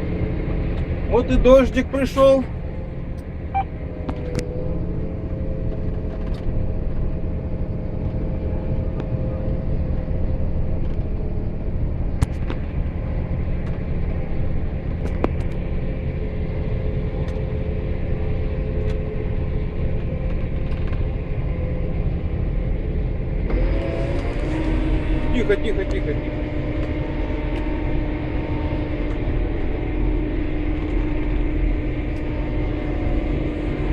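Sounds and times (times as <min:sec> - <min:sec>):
vehicle engine rumble: 0:00.0 - 0:33.9.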